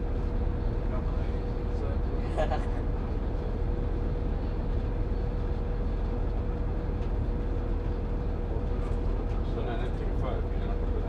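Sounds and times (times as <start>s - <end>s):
constant humming tone: 0.0s - 11.0s
train rumbling: 0.0s - 11.0s.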